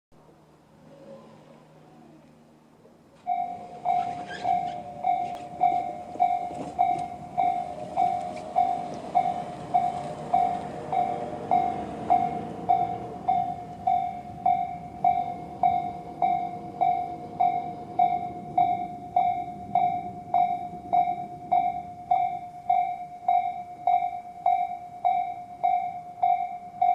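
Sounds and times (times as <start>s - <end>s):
electronic crossing bell dinging: 3.2s - 26.9s.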